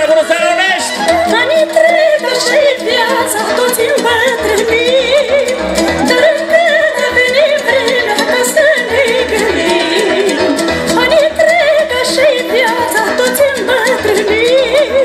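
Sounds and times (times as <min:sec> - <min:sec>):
amplified live band music: 0:00.0 - 0:15.0.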